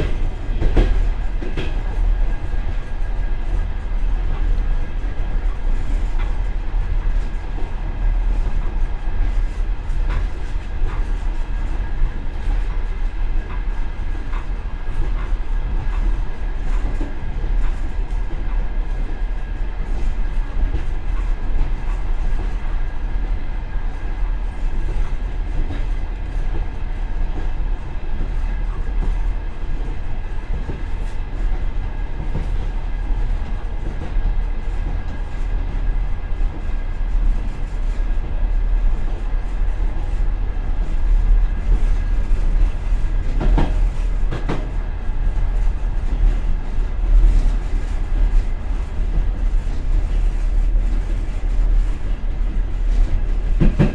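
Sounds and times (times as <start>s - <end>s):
low rumble of train wheels: 0.0s - 53.9s.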